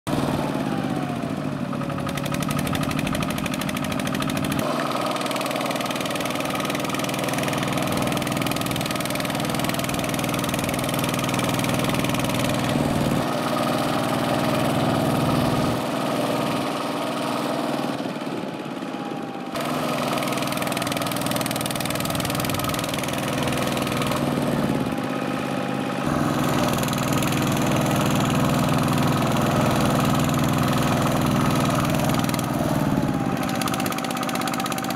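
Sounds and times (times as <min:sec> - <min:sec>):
diesel tractor engine running: 0:00.1 - 0:34.9.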